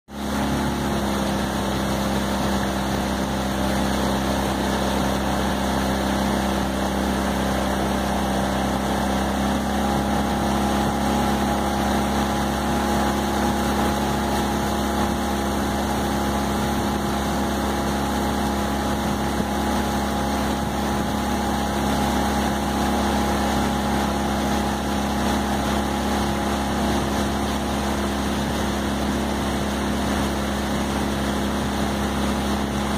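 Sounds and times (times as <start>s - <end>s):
outboard motor running: 0.1s - 32.9s
rush of air and water: 0.1s - 32.9s.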